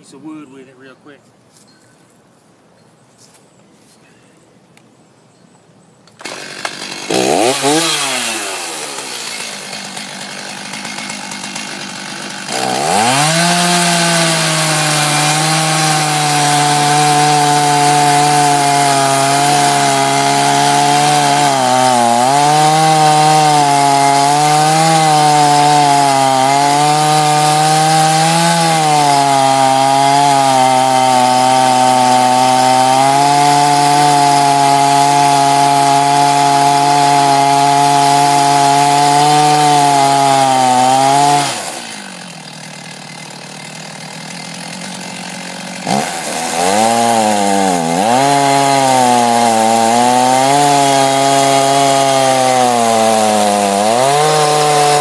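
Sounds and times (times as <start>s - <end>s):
chainsaw cutting a log: 6.1s - 55.0s.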